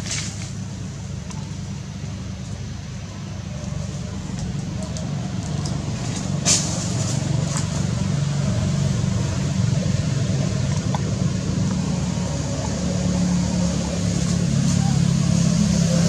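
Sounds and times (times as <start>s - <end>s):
distant traffic engine rumble: 0.0s - 16.0s.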